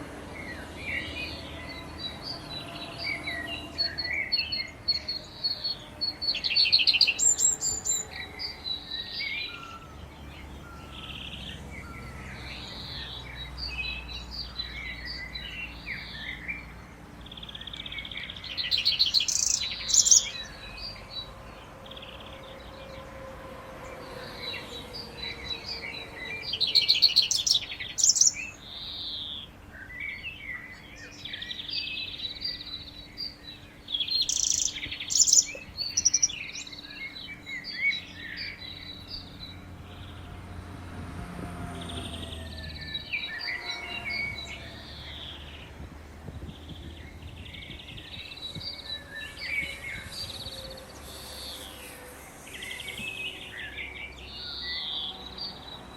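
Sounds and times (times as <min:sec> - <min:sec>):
distant warning sirens: 0:00.0 - 0:29.7, 0:34.6 - 0:46.0, 0:48.2 - 0:55.9
birds chirping and singing: 0:00.0 - 0:40.8, 0:41.6 - 0:55.9.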